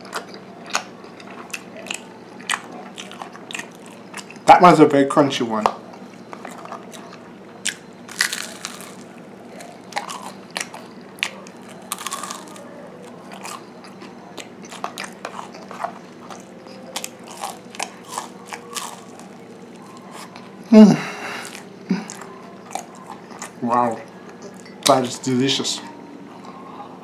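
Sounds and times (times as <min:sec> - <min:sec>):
crunchy snack being chewed: 0:00.0 - 0:04.5, 0:05.6 - 0:20.5, 0:21.3 - 0:24.9
faint steady hum: 0:00.0 - 0:27.0.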